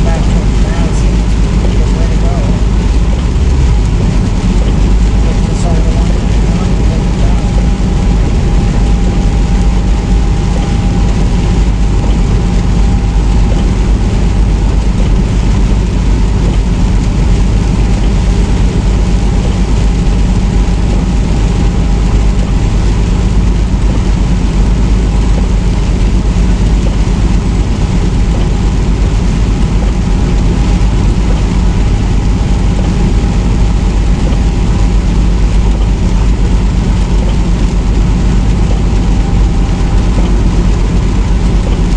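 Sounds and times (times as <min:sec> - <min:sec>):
faint steady whine: 0:00.0 - 0:41.9
truck engine and road rumble: 0:00.0 - 0:41.9.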